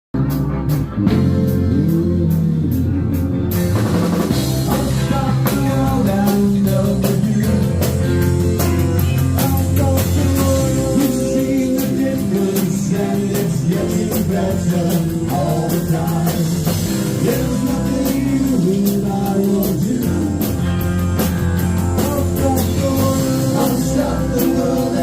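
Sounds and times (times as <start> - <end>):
live rock band playing: 0.1 - 25.0
drums keeping steady beat: 0.2 - 25.0.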